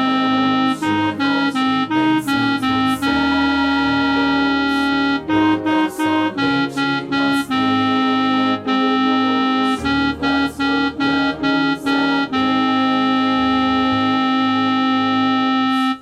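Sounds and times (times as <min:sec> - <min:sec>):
organ-like keyboard melody: 0:00.0 - 0:16.0.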